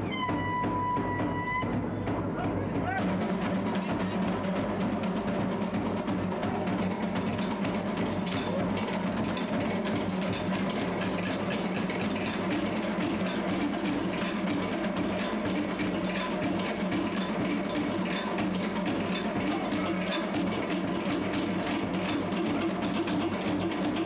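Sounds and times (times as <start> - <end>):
fast drumming: 0.0 - 24.0.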